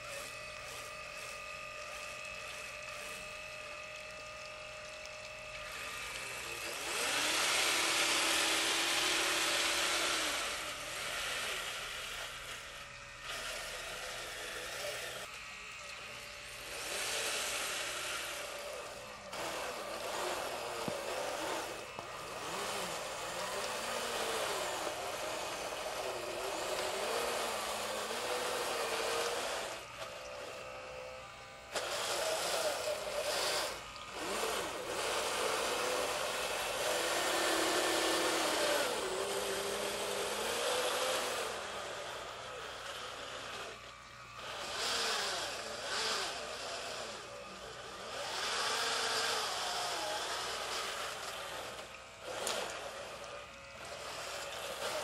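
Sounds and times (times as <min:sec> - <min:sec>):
model loader motor whine: 0:00.0 - 0:55.0.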